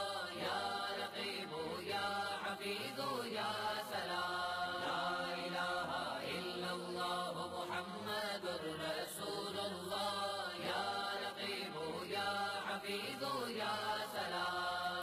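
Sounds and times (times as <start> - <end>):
chant-like singing: 0.0 - 15.0.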